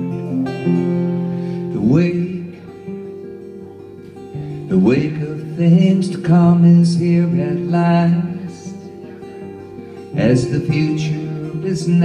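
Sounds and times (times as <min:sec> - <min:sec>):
strummed acoustic guitar: 0:00.0 - 0:12.0
man singing: 0:01.6 - 0:12.0.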